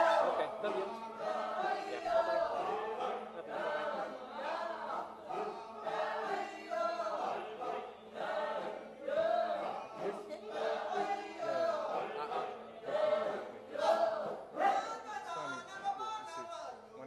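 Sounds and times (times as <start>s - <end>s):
group chanting and singing: 0.0s - 16.2s.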